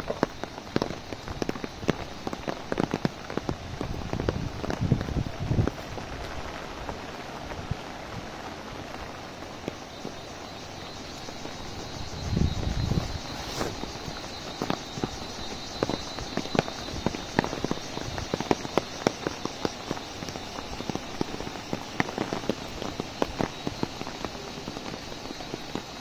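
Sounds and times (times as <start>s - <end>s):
raindrops tapping on an umbrella: 0.0s - 26.0s
steady hiss of rainfall: 0.0s - 26.0s.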